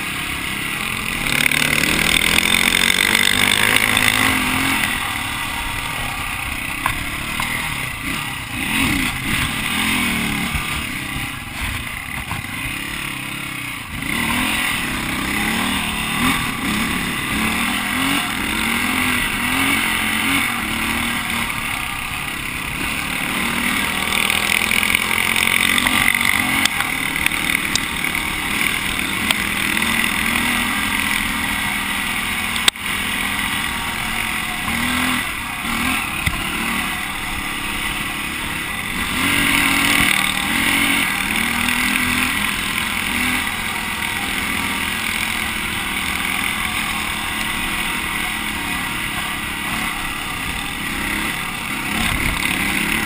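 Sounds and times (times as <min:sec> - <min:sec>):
dirt bike engine revving: 0:00.0 - 0:53.0
steady noisy rush: 0:00.0 - 0:53.0.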